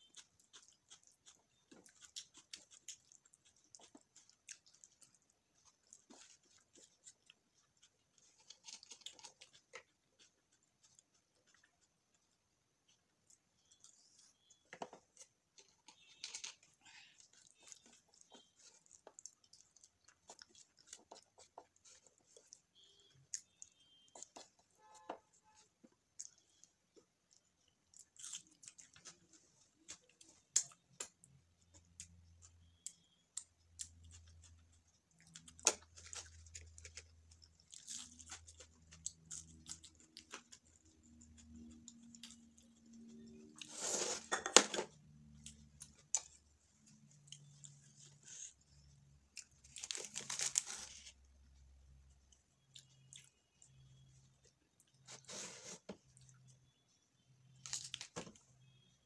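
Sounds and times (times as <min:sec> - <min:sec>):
person chewing: 0:00.0 - 0:44.3, 0:45.0 - 0:51.1, 0:52.2 - 0:56.8.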